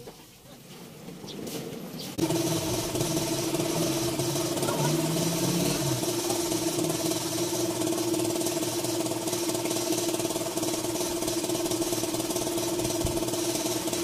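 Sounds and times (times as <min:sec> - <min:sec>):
machine humming: 0:02.2 - 0:14.0.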